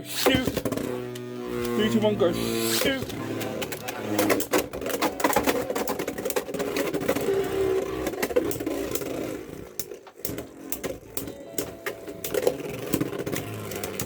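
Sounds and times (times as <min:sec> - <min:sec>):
spinning tops whirring: 0:00.0 - 0:14.0.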